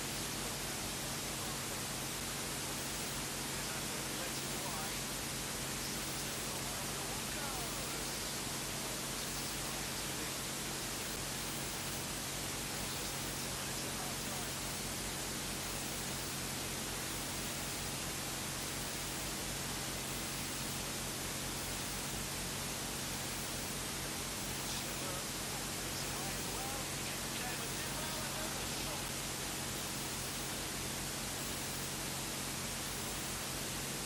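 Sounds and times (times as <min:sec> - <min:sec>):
low electrical hum: 0:00.0 - 0:34.0
static hiss: 0:00.0 - 0:34.0.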